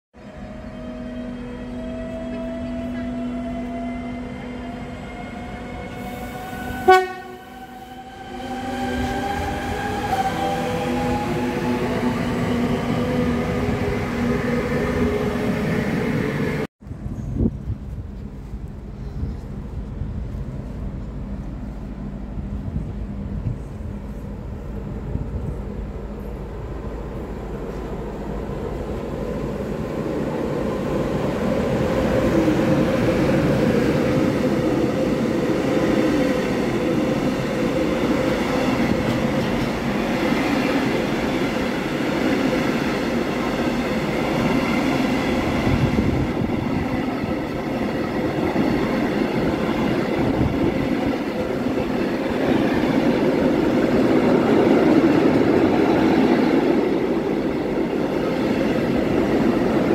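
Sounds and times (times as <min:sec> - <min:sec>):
freight train passing: 0:00.2 - 0:59.9
train wheel and rail noise: 0:00.2 - 0:59.9.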